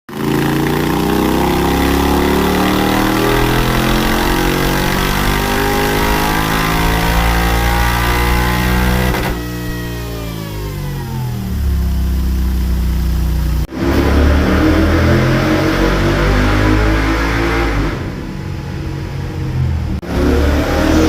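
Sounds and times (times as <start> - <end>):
motorcycle engine revving: 0.1 - 21.0.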